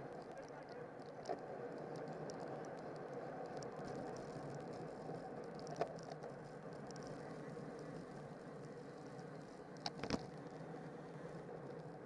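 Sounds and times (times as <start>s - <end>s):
bicycle tyre noise: 0.0s - 12.0s
faint high ticks: 0.0s - 12.0s.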